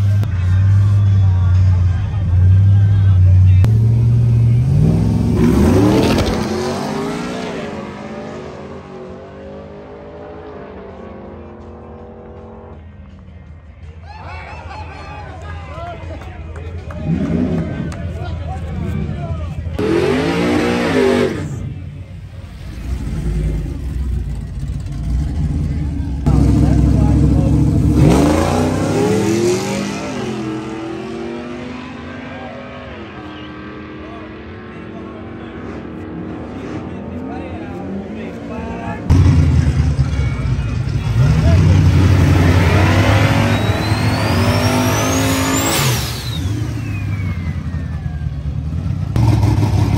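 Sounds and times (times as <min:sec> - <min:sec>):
race car engine at full throttle: 0:00.0 - 0:13.9, 0:15.8 - 0:49.9.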